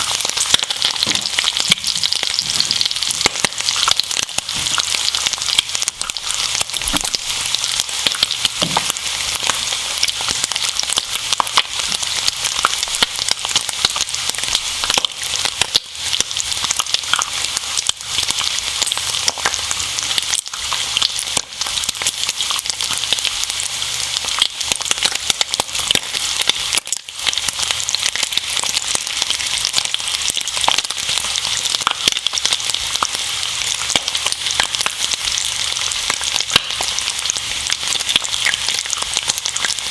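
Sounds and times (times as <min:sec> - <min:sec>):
bacon and eggs sizzling: 0:00.0 - 0:39.9.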